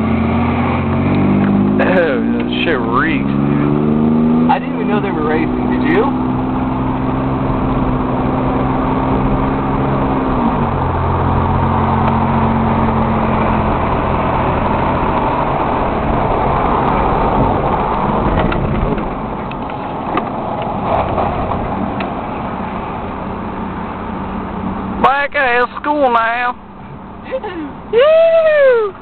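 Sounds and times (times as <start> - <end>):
car engine running: 0.0 - 28.0
road rumble: 0.0 - 29.0.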